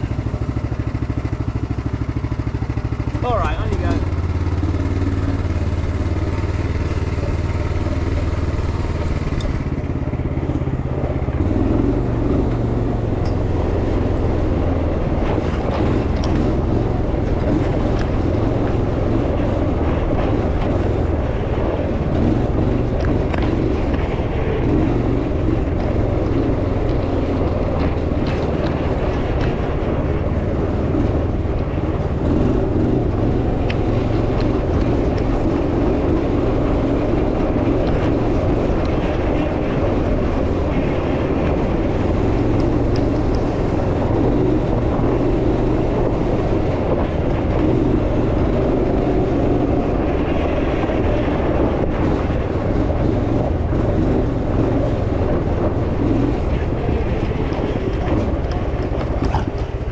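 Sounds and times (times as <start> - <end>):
buggy engine running: 0.0 - 59.9.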